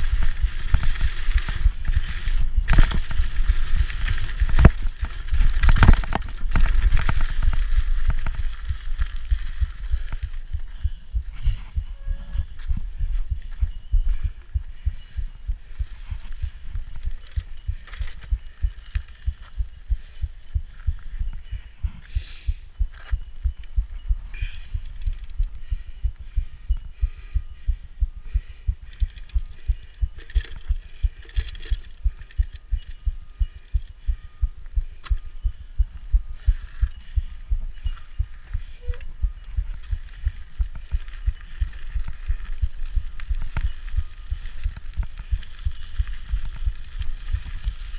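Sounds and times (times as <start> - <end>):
bike clicks and rattles: 0.0 - 22.1, 22.9 - 47.9
low pedalling thumps: 0.0 - 47.9.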